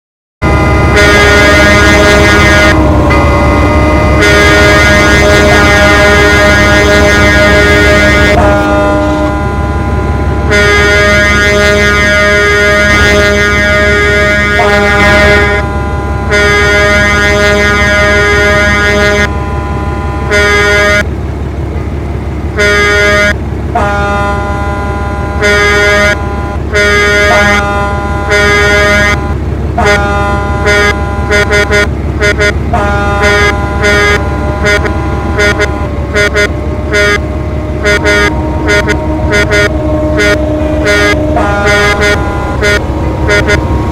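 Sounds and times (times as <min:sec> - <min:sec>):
vehicle horns honking: 0:00.4 - 0:21.1, 0:22.5 - 0:43.9
low rumble: 0:00.4 - 0:25.4, 0:26.1 - 0:43.9.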